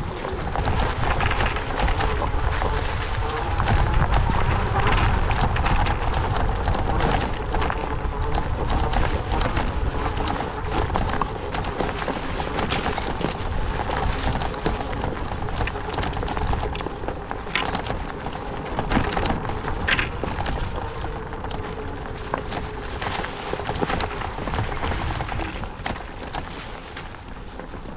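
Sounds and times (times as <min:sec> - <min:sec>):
wheelchair tyres crunching on trail: 0:00.0 - 0:27.9
wind rumbling on microphone: 0:00.0 - 0:27.9.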